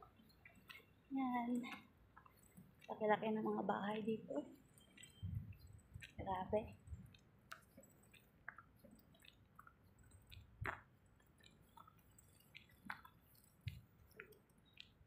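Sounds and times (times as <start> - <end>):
faint ticks: 0.0 - 15.0.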